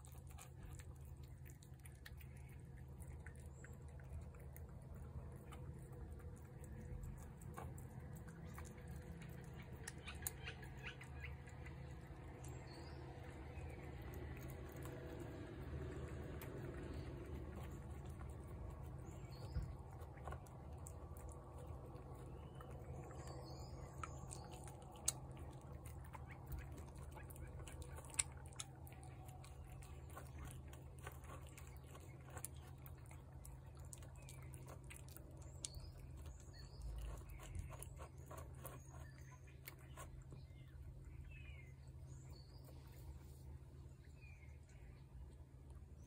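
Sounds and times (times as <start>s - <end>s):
cat chewing wet food: 0.0s - 43.7s.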